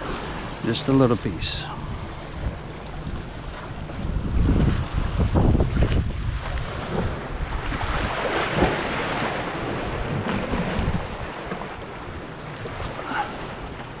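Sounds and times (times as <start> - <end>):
wind buffeting microphone: 1.2 - 13.0.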